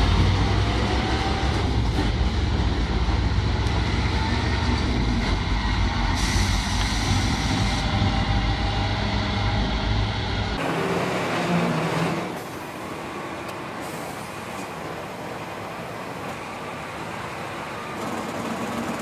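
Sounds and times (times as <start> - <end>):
quieter truck engine: 0.0 - 19.0
truck diesel engine rumbling: 0.0 - 19.0.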